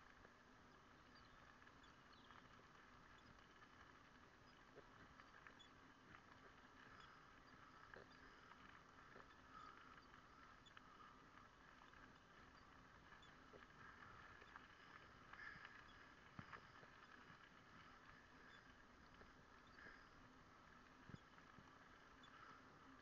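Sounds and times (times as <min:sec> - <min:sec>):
faint steady hiss: 0:00.0 - 0:23.0
bicycle ticking on gravel: 0:00.2 - 0:23.0.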